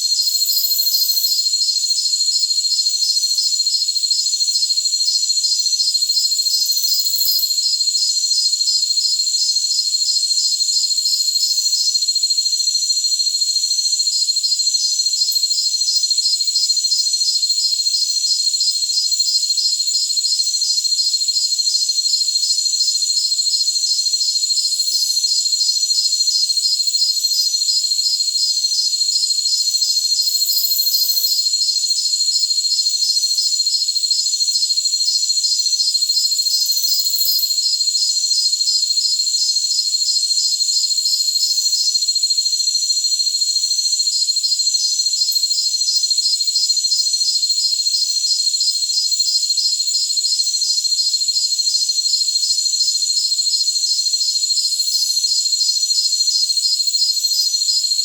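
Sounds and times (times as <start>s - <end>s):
crickets trilling: 0.0s - 58.0s
rapidly pulsing insect chirp: 0.0s - 58.0s.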